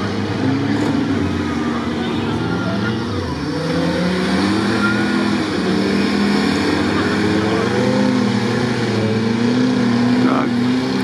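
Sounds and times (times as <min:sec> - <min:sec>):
off-road engines revving: 0:00.0 - 0:11.0.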